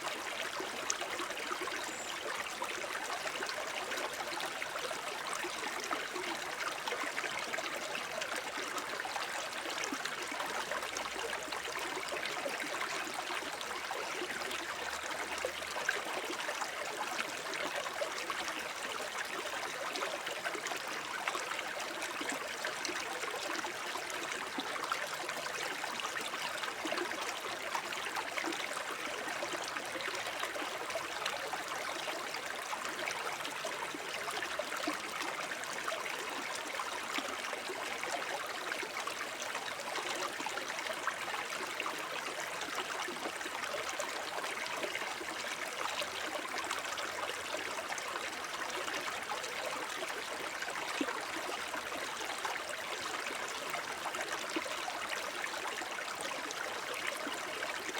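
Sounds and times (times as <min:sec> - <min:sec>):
brook babbling over stones: 0:00.0 - 0:57.9.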